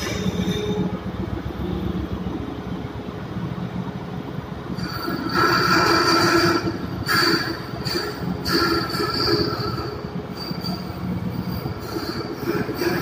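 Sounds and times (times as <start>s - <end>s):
high-pitched machine whine: 0.0s - 2.8s, 4.6s - 13.0s
machinery hum and drone: 0.0s - 13.0s.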